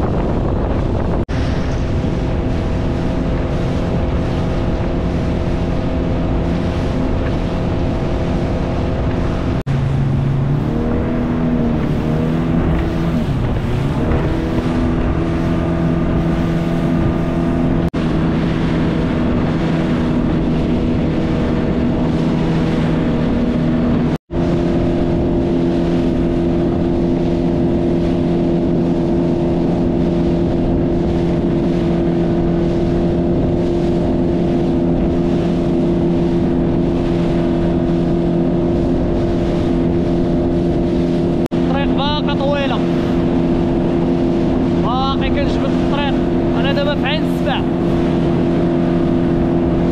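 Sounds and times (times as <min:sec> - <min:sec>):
motorboat engine running: 0:00.0 - 0:49.9.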